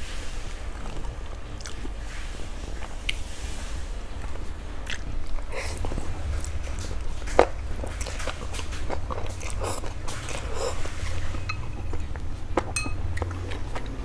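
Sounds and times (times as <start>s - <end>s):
person slurping and chewing noodles: 0.0s - 14.0s
steady low hum: 0.0s - 14.0s.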